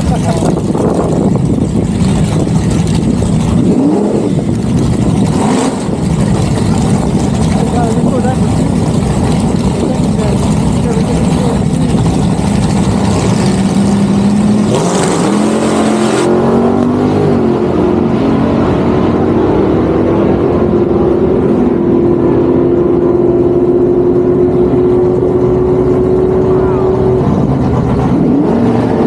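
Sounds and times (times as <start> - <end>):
car engine at full throttle: 0.0 - 29.0.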